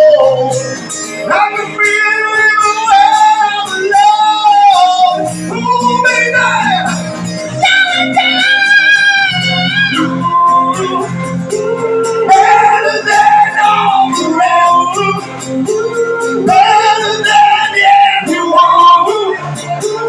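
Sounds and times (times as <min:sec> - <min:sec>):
lead singer holding long notes: 0:00.0 - 0:20.0
live band playing: 0:00.0 - 0:20.0.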